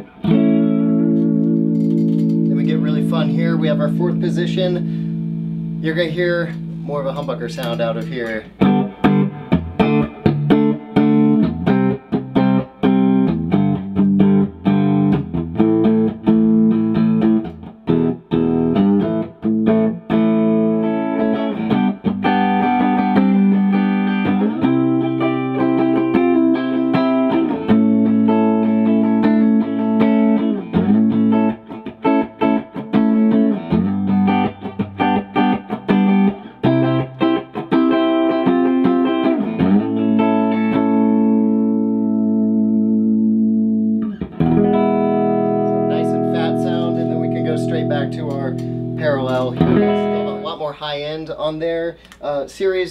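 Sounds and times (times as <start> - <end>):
electric guitar through an amp: 0.0 - 50.7.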